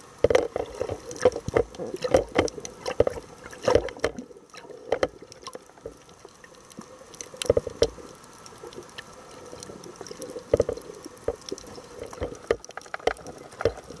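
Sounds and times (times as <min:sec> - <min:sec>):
steady hiss: 0:00.0 - 0:14.0
underwater gurgling bubbles: 0:00.0 - 0:14.0.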